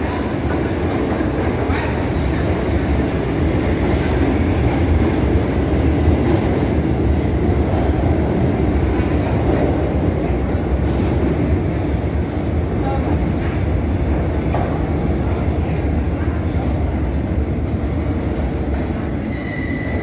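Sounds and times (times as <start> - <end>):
subway train rumbling on rails: 0.0 - 20.0.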